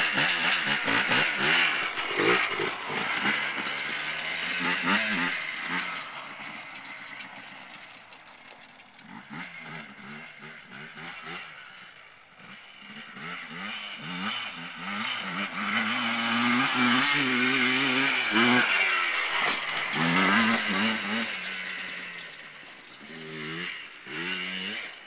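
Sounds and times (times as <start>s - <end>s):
quad bike engine revving: 0.0s - 25.0s.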